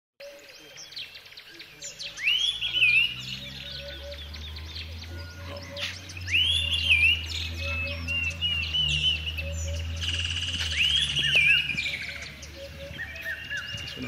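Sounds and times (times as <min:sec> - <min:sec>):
birds chirping: 0:00.2 - 0:14.0
rising whistled bird call: 0:01.4 - 0:14.0.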